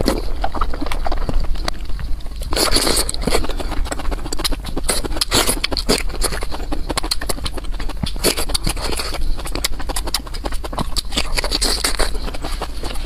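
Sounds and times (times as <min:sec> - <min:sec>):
crunching and chewing broccoli: 0:00.0 - 0:13.0.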